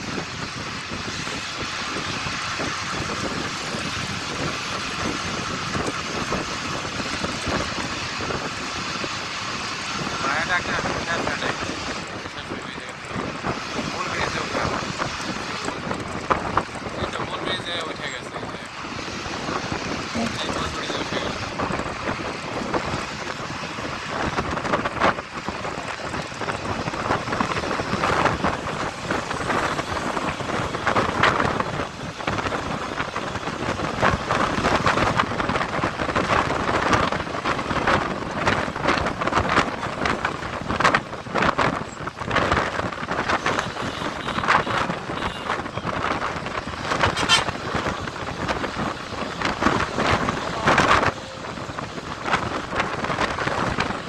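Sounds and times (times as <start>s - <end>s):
bus road noise: 0.0s - 54.0s
wind buffeting microphone: 0.0s - 54.0s.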